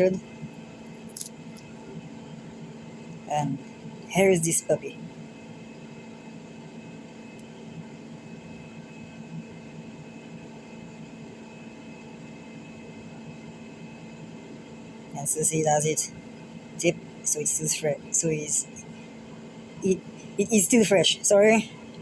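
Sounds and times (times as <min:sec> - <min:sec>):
steady hum and hiss: 0:00.0 - 0:22.0.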